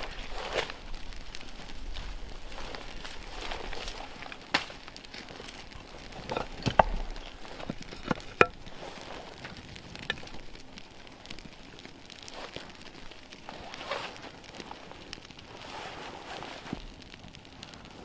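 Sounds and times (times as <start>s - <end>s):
faint rustle: 0.0s - 18.0s
kindling snapping and crackling: 0.0s - 18.0s.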